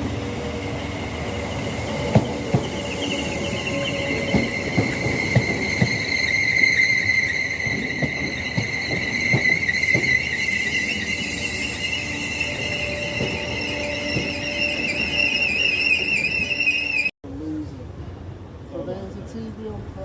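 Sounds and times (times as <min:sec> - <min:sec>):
train wheels squealing: 0:00.6 - 0:17.1.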